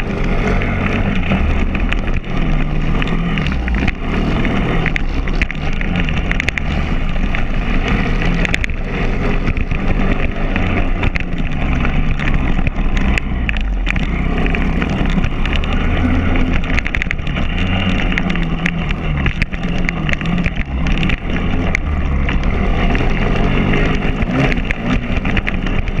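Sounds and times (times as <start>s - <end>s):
knocks and rattles: 0.0s - 26.0s
motorbike engine revving: 0.0s - 26.0s.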